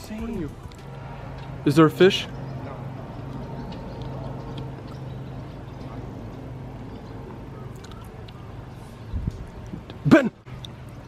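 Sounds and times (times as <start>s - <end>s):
low machine hum: 0.0s - 9.9s.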